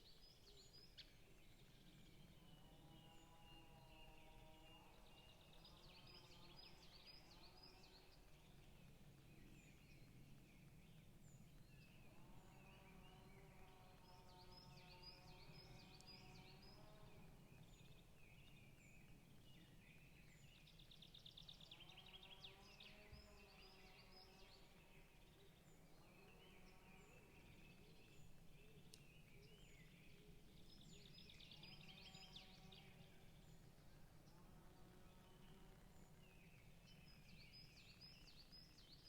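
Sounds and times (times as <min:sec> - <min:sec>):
birds singing: 0:00.2 - 0:39.0.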